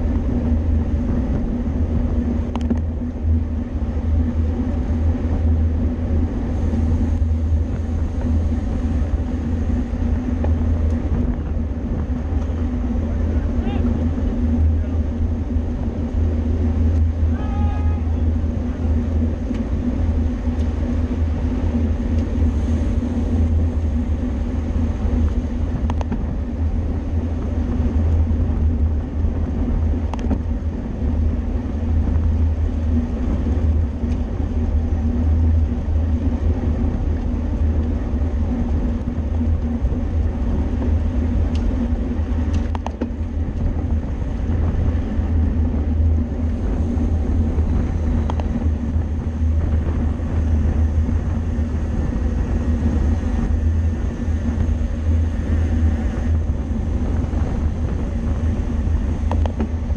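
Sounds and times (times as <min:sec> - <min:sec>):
tyre road noise: 0:00.0 - 0:59.9
wind rumble on microphone: 0:00.0 - 0:59.9.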